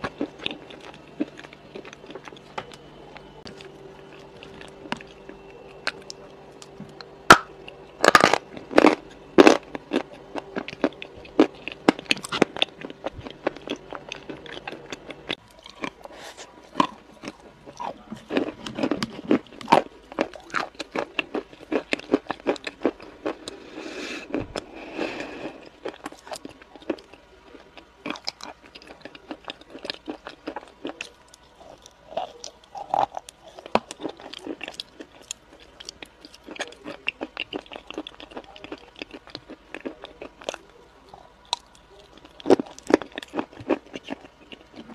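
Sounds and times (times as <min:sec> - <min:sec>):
chewing crunchy food: 0:00.0 - 0:44.9
faint low hum: 0:00.0 - 0:44.9.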